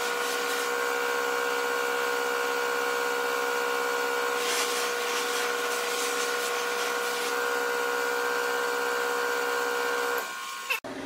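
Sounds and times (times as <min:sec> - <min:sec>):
buffing wheel whine: 0:00.0 - 0:11.0.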